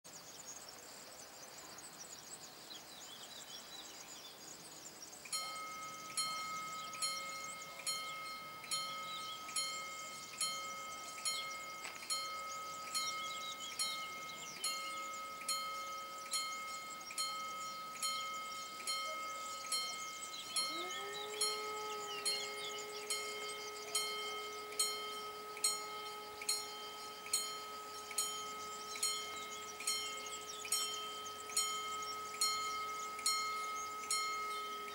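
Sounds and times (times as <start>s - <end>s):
level crossing warning bell: 5.3s - 34.9s.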